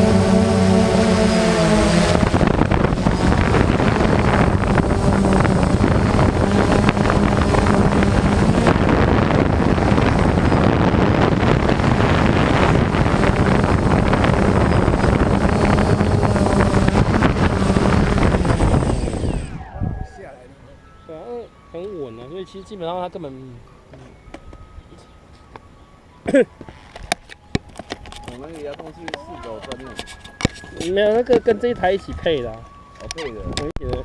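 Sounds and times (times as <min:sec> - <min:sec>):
wind noise on microphone: 0:00.0 - 0:20.5, 0:26.6 - 0:34.0
drone motors humming: 0:00.0 - 0:34.0.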